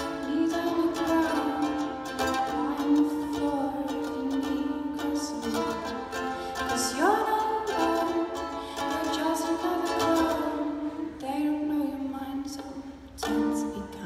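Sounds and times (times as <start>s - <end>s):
ukulele strumming and plucking: 0.0s - 14.0s.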